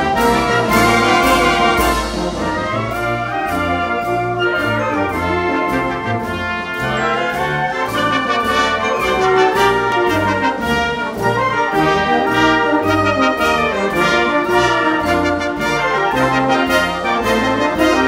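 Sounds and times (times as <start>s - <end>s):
wind band playing a march: 0.0s - 18.0s.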